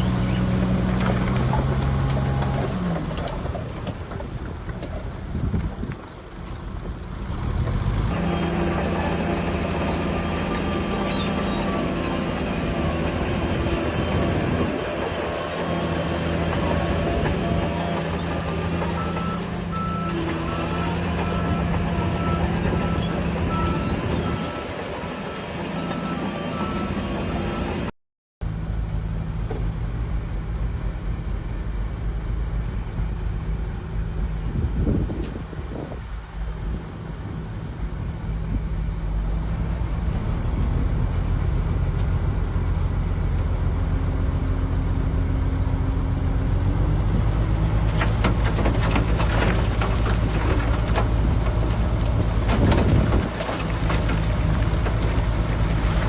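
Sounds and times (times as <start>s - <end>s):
bulldozer diesel engine under load: 0.0s - 27.9s, 28.5s - 56.0s.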